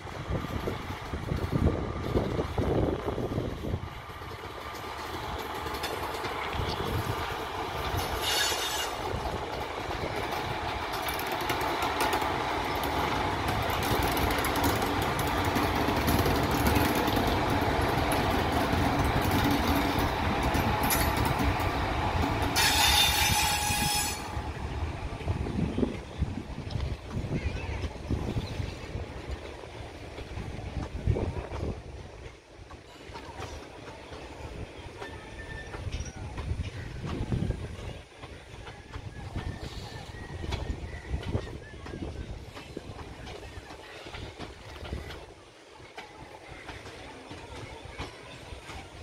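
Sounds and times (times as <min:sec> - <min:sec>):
train wheels rumbling and clattering: 0:00.0 - 0:49.0.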